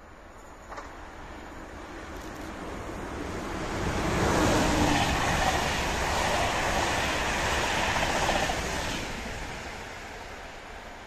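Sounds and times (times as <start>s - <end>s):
train wheels rushing on rails: 0.4s - 11.0s.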